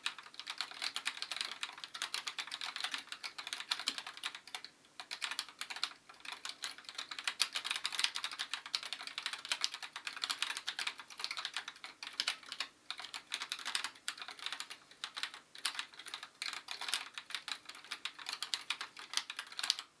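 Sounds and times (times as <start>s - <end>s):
fast typing on mechanical keyboard: 0.0s - 19.9s.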